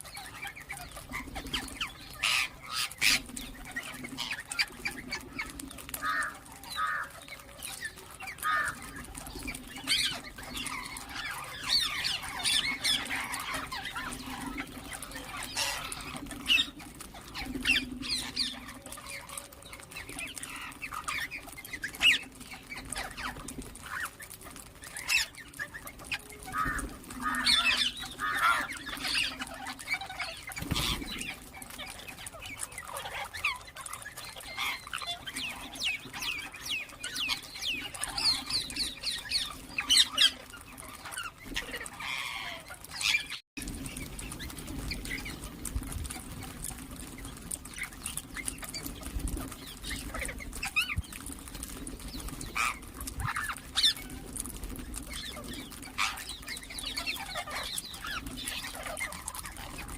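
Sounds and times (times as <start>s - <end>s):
parakeets chirping and squawking: 0.0s - 59.9s.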